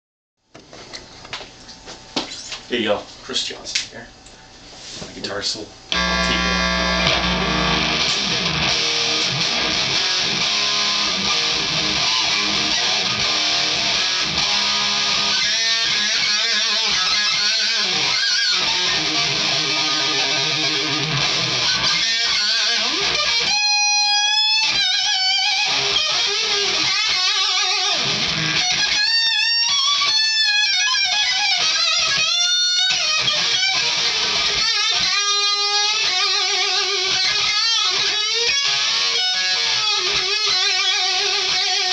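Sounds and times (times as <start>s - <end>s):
distorted electric guitar solo: 5.9s - 41.9s.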